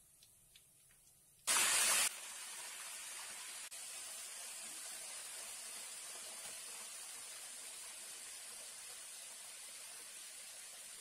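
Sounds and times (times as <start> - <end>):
oil sizzling in a wok: 1.5 - 11.0.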